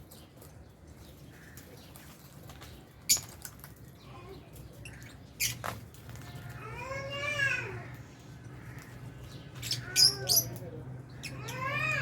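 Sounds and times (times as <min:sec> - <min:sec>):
birds chirping sharply: 0:00.0 - 0:12.0.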